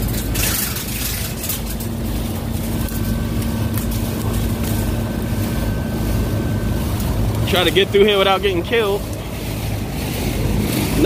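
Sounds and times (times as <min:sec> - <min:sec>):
condensing units humming: 0:00.0 - 0:11.0
leaves rustling underfoot: 0:00.0 - 0:11.0.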